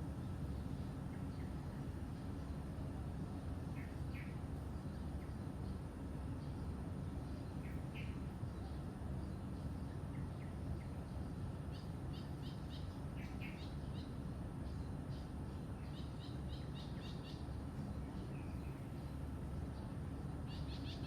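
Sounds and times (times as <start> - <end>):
low outdoor rumble: 0.0 - 21.0
songbirds chirping: 0.0 - 21.0.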